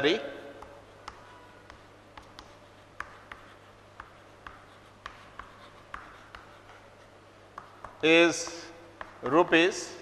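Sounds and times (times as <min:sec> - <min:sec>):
chalk writing on chalkboard: 0:00.6 - 0:10.0.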